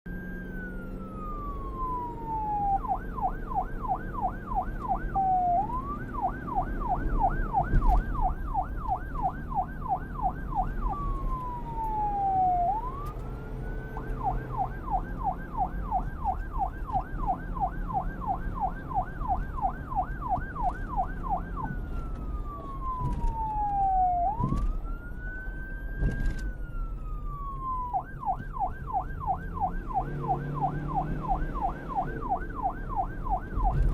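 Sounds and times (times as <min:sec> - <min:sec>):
police siren wail and yelp: 0:00.1 - 0:33.9.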